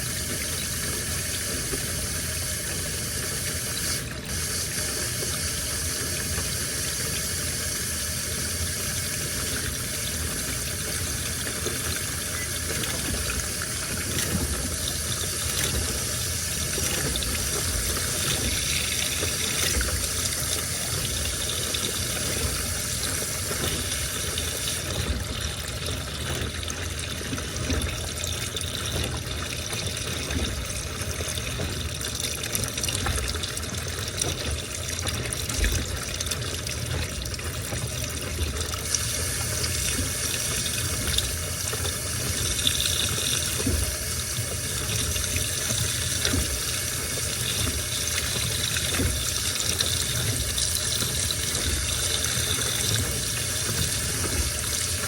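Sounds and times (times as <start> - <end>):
water running into washing machine: 0.0 - 55.0.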